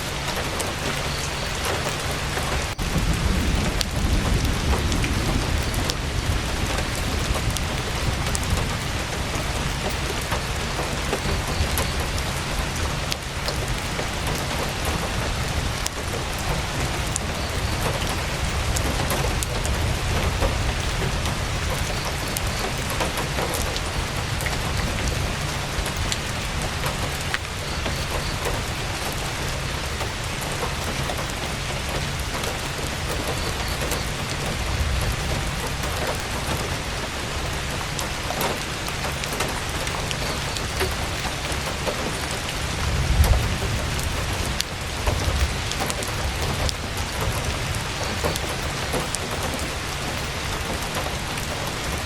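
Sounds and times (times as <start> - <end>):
heavy rain on a tent: 0.0 - 52.0
sharp ticks of raindrops: 0.0 - 52.0.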